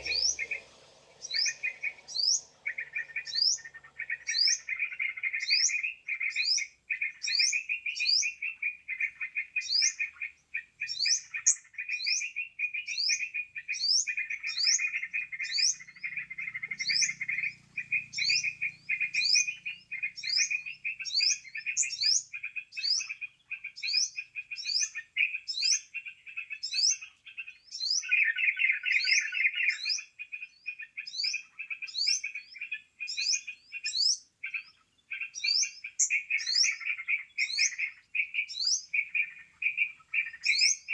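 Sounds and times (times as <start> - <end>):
birds chattering: 0.0 - 40.9
high rising bird chirps: 0.0 - 40.9.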